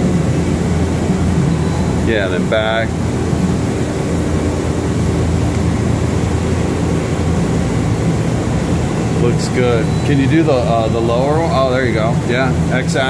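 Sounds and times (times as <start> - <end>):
lathe mechanical hum: 0.0 - 13.0.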